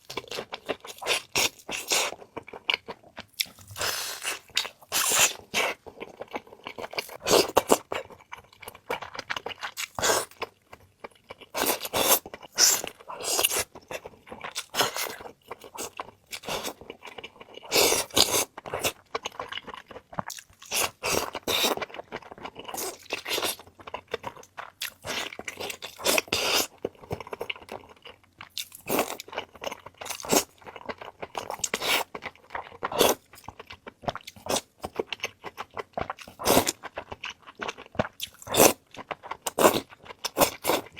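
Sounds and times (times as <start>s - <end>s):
crunchy chewing of crisp food: 0.0s - 40.9s.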